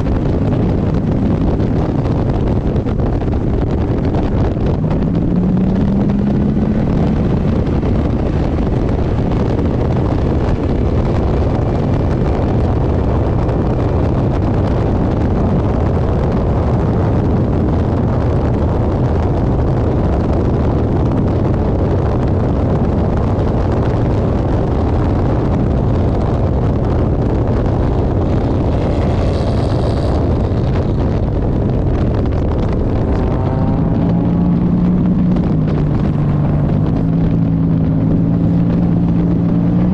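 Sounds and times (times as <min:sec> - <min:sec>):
race car engine running: 0:00.0 - 0:39.9
wind buffeting microphone: 0:00.0 - 0:39.9.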